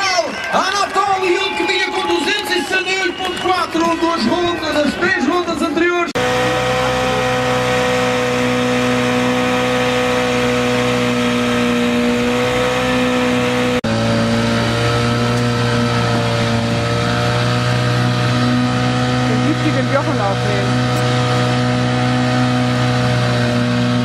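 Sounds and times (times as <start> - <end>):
boat engine running: 0.4 - 24.0.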